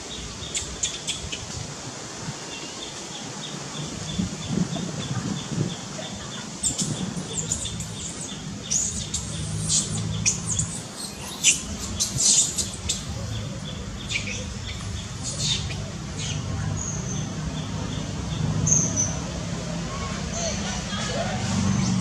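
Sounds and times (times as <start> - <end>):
birds chirping and squeaking: 2.5 - 22.0.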